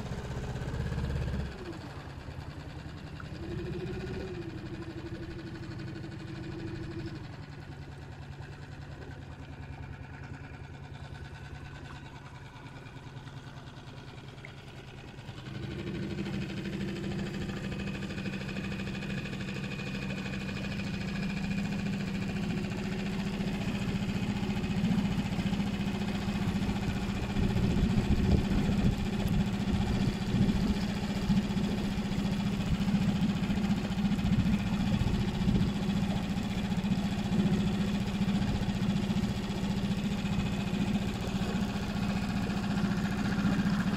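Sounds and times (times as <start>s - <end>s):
outboard motor running: 0.0s - 43.9s.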